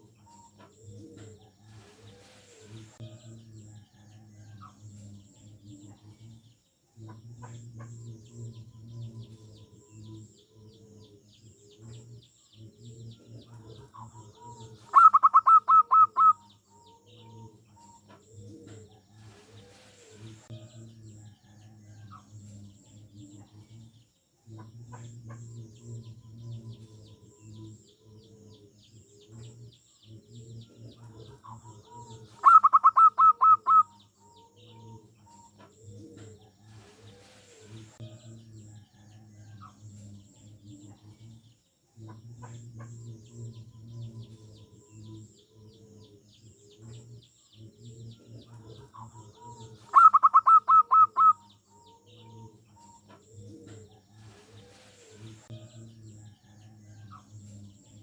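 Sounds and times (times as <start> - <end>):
dove staccato cooing: 0.0 - 3.0, 3.6 - 20.5, 24.6 - 38.0, 42.0 - 55.5
small birds twittering: 0.0 - 58.0.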